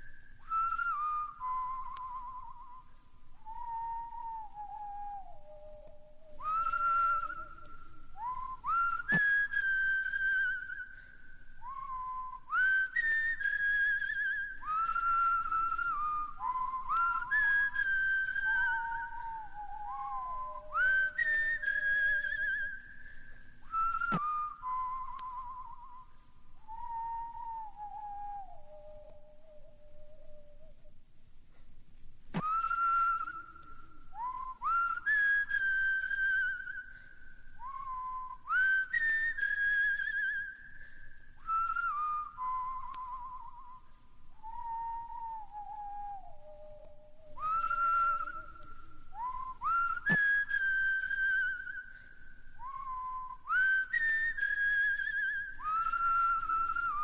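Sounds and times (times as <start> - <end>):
person whistling slow melody: 0.0 - 31.6, 32.4 - 57.0.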